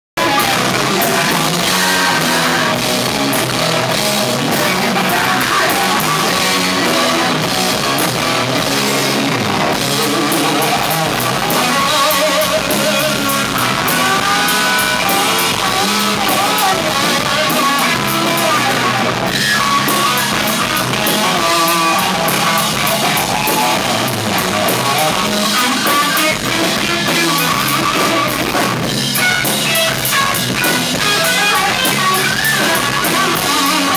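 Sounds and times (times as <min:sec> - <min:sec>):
live rock band playing: 0:00.2 - 0:33.9.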